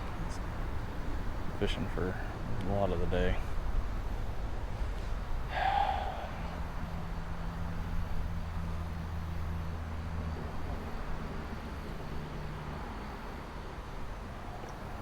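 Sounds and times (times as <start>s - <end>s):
distant motor vehicle hum: 0.0s - 15.0s.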